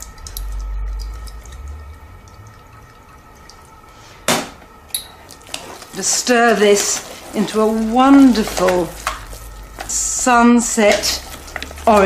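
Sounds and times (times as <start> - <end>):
oil dripping: 0.0 - 6.2, 6.8 - 12.0.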